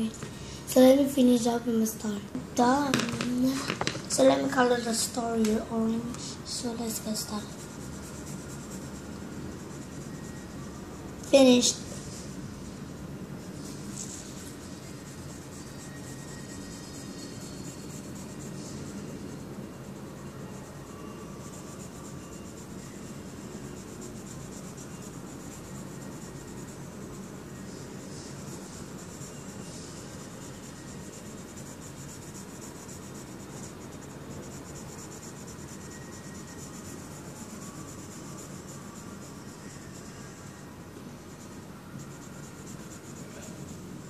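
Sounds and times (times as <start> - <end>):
steady low hum: 0.0 - 44.0
drawing tool scratching on paper: 3.2 - 44.0.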